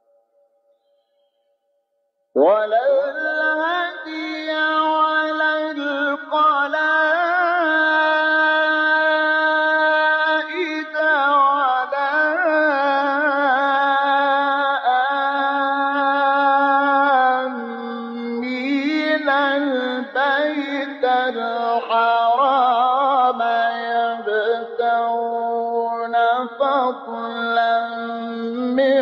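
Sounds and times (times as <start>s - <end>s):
man chanting unaccompanied: 2.4s - 29.0s.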